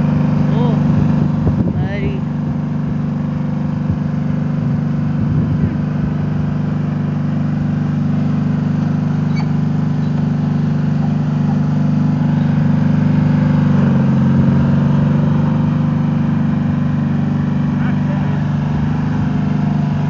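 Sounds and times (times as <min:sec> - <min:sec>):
riding lawn mower engine: 0:00.0 - 0:20.0.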